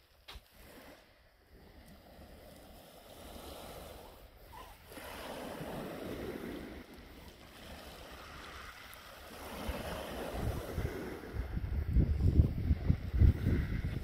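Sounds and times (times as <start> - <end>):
waves on shingle beach: 0.0 - 14.0
wind rumbling on microphone: 0.0 - 14.0.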